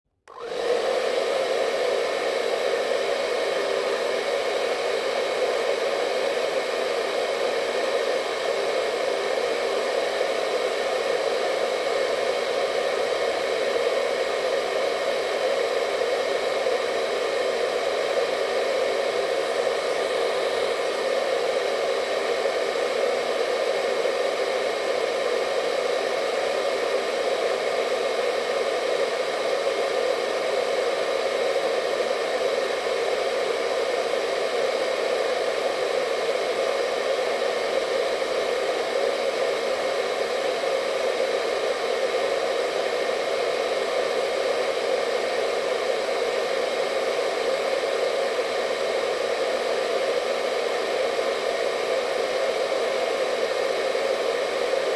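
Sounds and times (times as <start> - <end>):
hair dryer running: 0.1 - 54.9.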